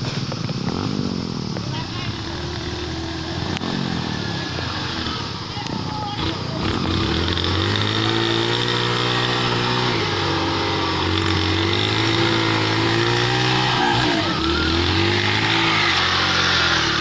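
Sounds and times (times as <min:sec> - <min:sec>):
motorcycle engine revving unevenly: 0:00.0 - 0:17.0.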